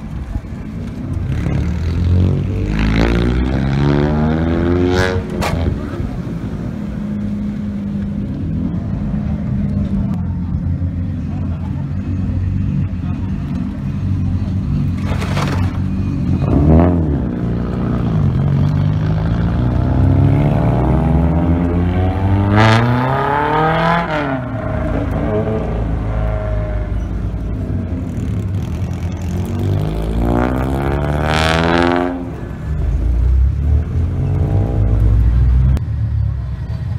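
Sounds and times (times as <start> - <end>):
sports car engines revving: 0.0 - 36.9.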